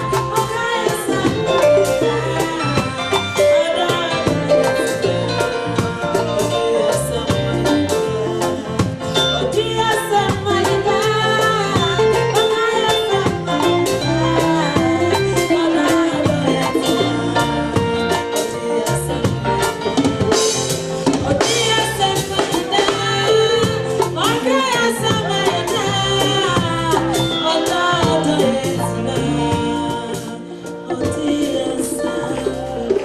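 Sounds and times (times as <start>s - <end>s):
bass line: 0.0s - 33.0s
live band music: 0.0s - 33.0s.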